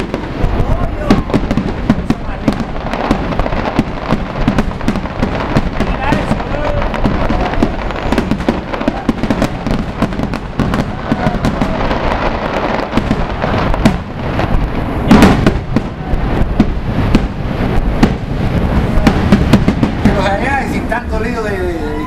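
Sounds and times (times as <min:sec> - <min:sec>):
deep firework boom: 0:00.0 - 0:21.2
fireworks crackling and popping: 0:00.0 - 0:22.0.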